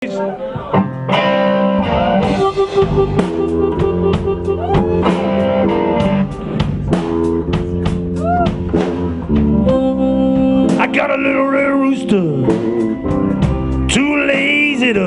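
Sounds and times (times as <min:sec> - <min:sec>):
blues guitar with bent notes: 0:00.0 - 0:15.0
drum kit beat: 0:00.6 - 0:15.0.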